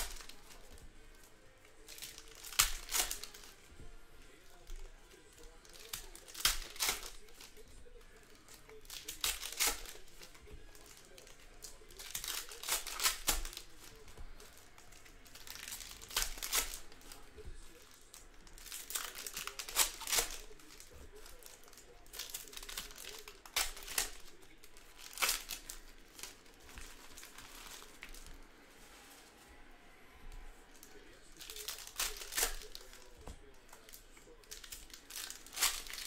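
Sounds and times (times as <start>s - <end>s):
packaging crinkling and rustling: 0.0s - 3.7s, 4.3s - 29.6s, 30.3s - 36.0s.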